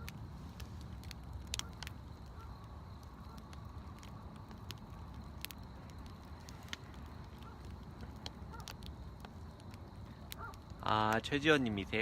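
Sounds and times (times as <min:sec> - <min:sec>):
campfire crackling: 0:00.0 - 0:12.0
low steady fire rumble: 0:00.0 - 0:12.0.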